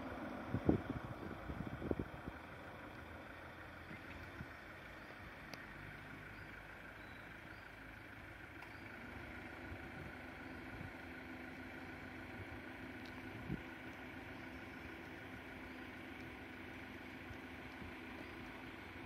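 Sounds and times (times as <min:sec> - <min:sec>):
engine idling hum: 0:00.0 - 0:19.0.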